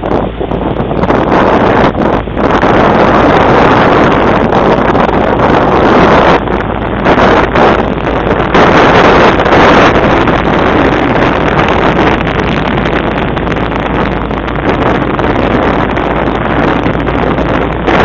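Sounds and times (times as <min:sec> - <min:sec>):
outboard engine running: 0:00.0 - 0:18.0
wind buffeting microphone: 0:00.0 - 0:18.0.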